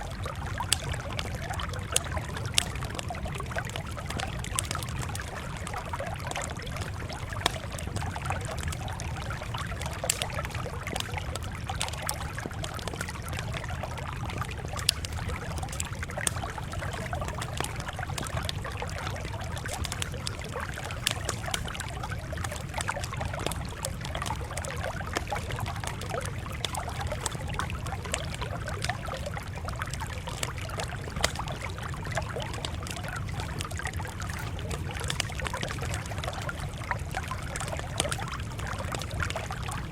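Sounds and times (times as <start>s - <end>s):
campfire crackling: 0.0s - 39.9s
sharp pops of fire: 0.3s - 29.0s, 30.3s - 39.7s.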